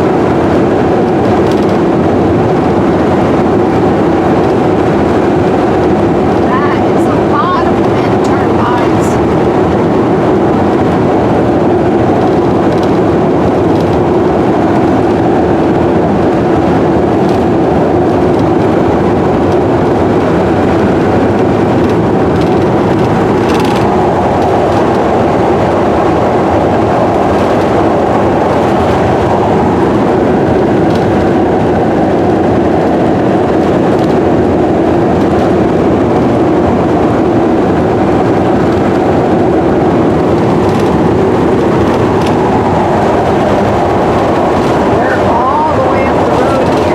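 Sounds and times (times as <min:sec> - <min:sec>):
vehicle engine and road noise: 0:00.0 - 0:46.9.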